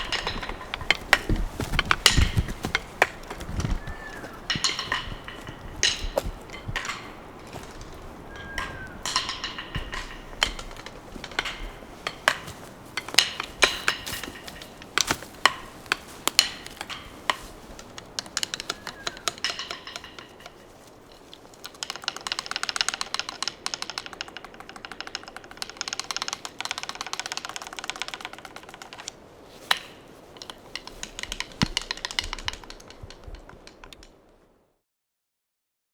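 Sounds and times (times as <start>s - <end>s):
woodpecker pecking on wood: 0.0s - 34.0s.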